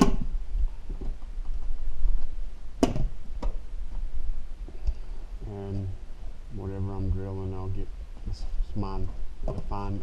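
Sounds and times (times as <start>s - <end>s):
steady low rumble: 0.2s - 10.0s.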